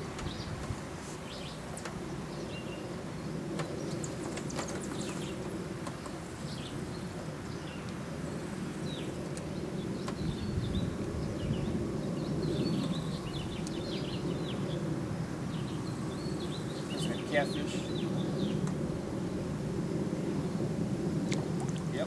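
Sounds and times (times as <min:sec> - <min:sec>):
small birds chirping: 0:00.2 - 0:19.5.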